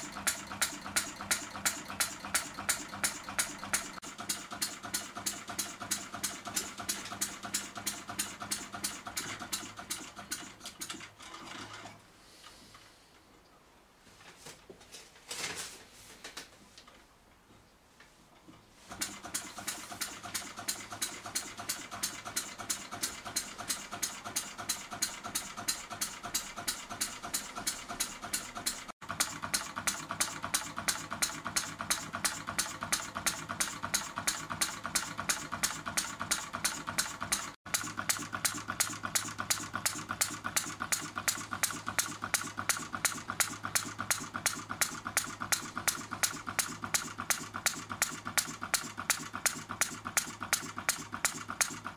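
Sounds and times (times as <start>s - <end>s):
model engine running: 0.0s - 11.0s, 18.9s - 51.9s.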